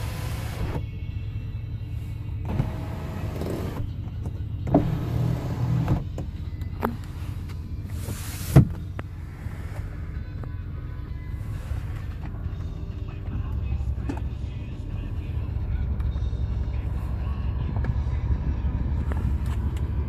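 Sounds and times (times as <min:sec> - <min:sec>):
low rumble of car driving: 0:00.0 - 0:20.0.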